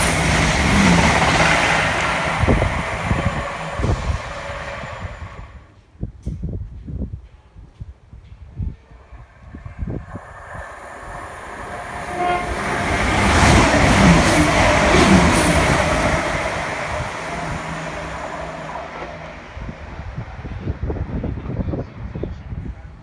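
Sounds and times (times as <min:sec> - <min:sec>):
train passing: 0:00.0 - 0:05.7, 0:08.5 - 0:23.0.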